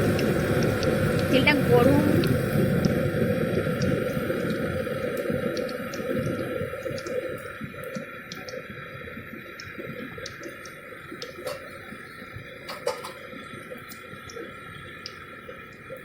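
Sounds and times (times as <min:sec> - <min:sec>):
food frying in hot oil: 0:00.0 - 0:16.0.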